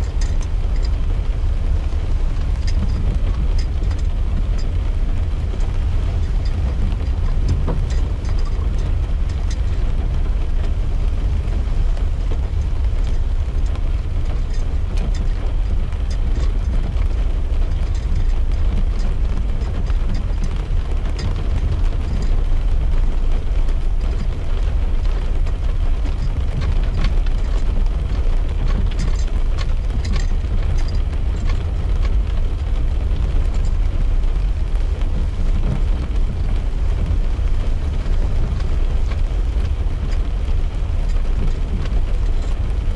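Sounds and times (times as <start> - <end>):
car road and engine rumble: 0.0 - 42.9
raindrops ticking on windscreen: 0.0 - 42.9.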